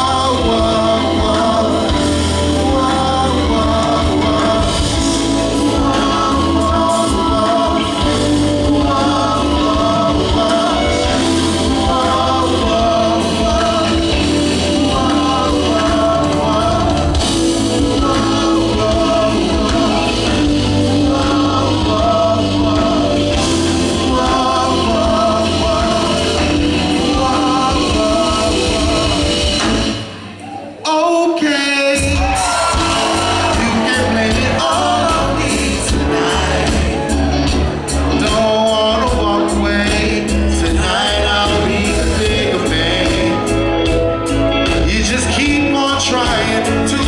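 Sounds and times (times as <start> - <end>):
soul band playing: 0.0 - 30.8, 32.0 - 47.0
wordless vocals: 0.0 - 47.0.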